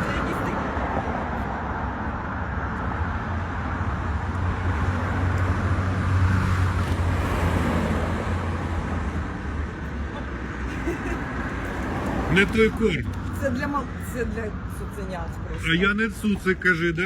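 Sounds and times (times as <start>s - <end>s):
road vehicle engine hum: 0.0s - 17.0s.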